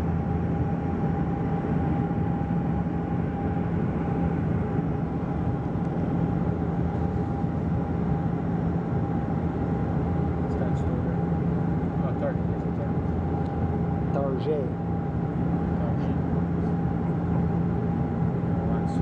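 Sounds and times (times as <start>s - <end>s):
low steady hum: 0.0s - 19.0s
turboprop engine drone: 0.0s - 19.0s.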